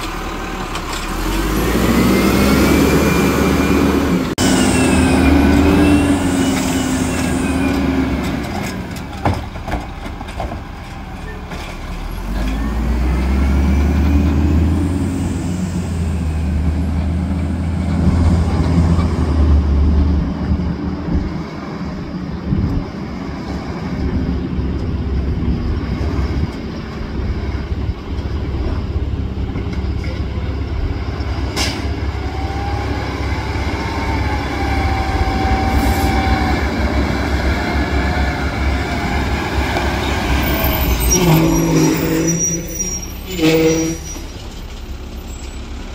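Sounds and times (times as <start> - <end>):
garbage truck engines rumbling: 0.0 - 45.9.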